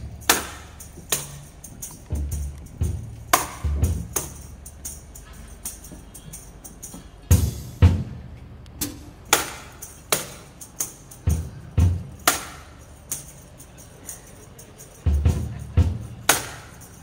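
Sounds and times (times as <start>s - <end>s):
tambourine strikes: 0.0s - 8.2s, 8.8s - 17.0s.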